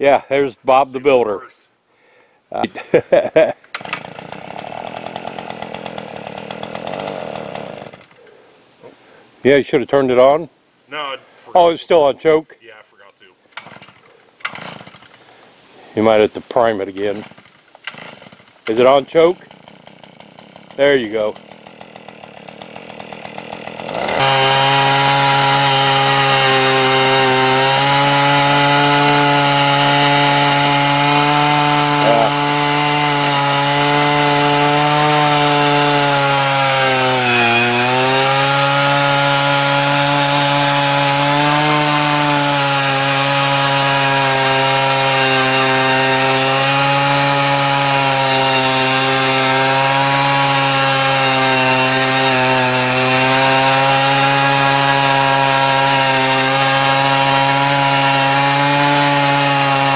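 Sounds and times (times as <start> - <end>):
post-hole auger engine: 3.7 - 8.2, 13.6 - 15.1, 17.0 - 59.9.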